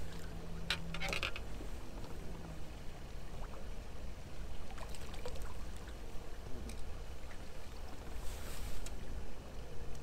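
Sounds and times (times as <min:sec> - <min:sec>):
low rumble of wind: 0:00.0 - 0:10.0
low steady hum: 0:00.0 - 0:10.0.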